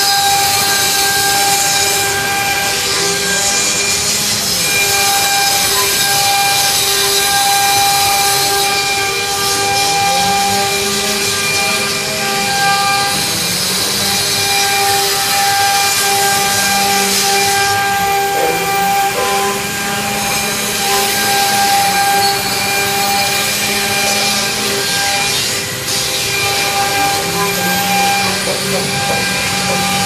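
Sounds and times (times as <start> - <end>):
cnc router spindle whine: 0.0 - 30.0
hissing cutting noise: 0.0 - 30.0.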